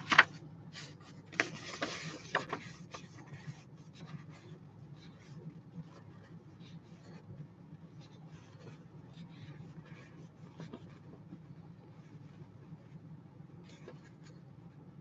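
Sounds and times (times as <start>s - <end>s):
scratching and rustling at a desk: 0.0s - 15.0s.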